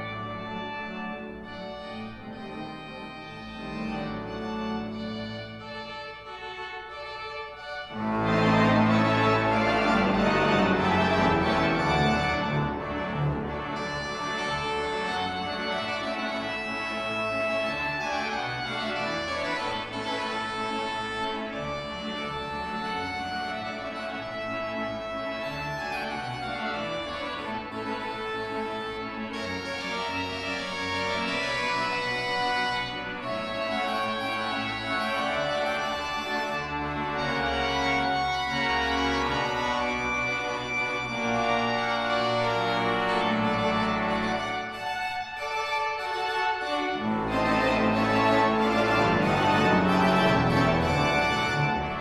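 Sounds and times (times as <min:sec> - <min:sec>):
pipe organ playing: 0:00.0 - 0:52.0.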